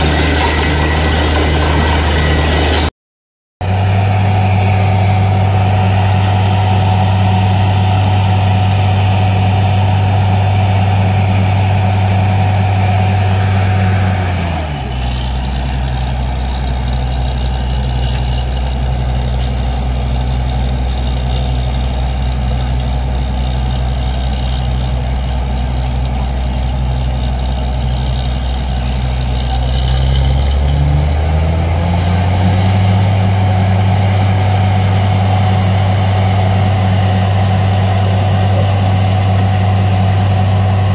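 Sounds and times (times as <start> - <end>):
diesel engine running: 0.0 - 2.9, 3.6 - 40.9.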